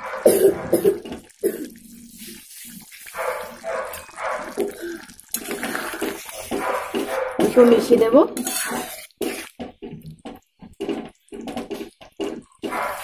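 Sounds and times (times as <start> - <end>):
curry bubbling and plopping: 0.2 - 13.0.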